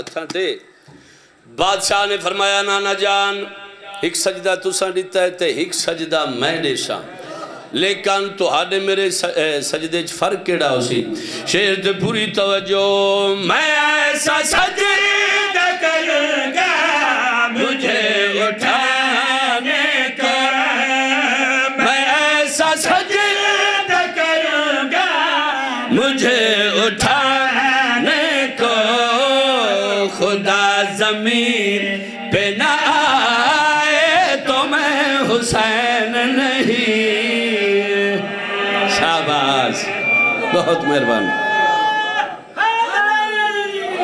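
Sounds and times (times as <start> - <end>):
man chanting through a microphone: 1.5 - 41.6.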